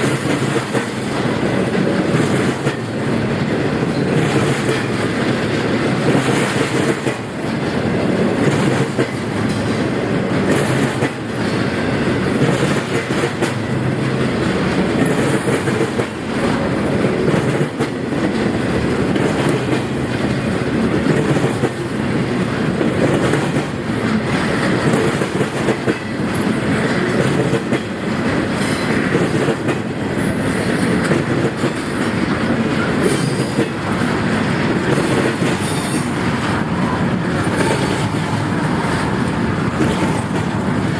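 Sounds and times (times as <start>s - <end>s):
train cars rumbling: 0.0s - 40.9s
train wheels clicking over rail joints: 0.0s - 40.9s.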